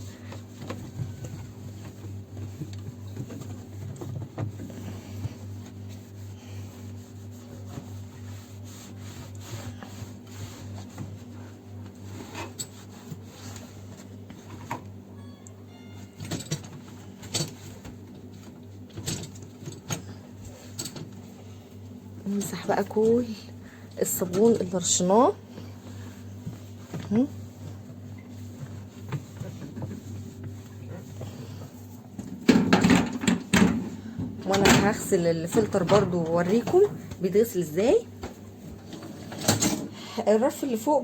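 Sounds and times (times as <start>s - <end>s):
hand scrubbing inside dishwasher: 0.0s - 14.9s, 16.4s - 41.0s
steady low hum: 0.0s - 41.0s.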